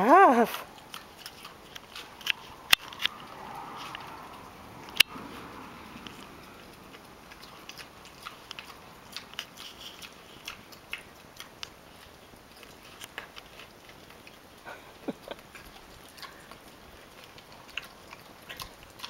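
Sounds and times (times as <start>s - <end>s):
pig chewing with crunches: 0.0s - 19.0s.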